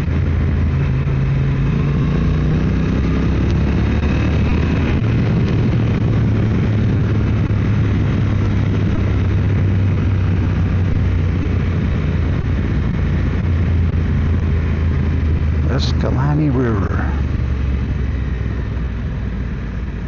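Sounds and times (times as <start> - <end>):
motorcycle engine cruising: 0.0 - 20.0
wind noise rushing: 0.0 - 20.0.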